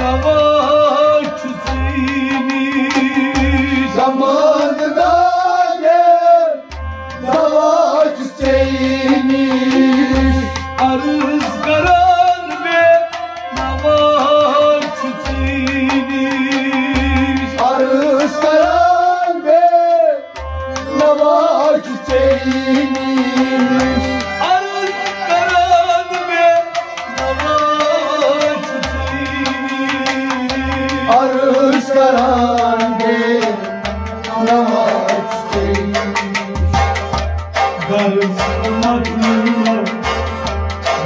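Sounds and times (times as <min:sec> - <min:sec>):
harmonium: 0:00.0 - 0:41.0
man singing: 0:00.0 - 0:41.0
rabab: 0:00.0 - 0:41.0.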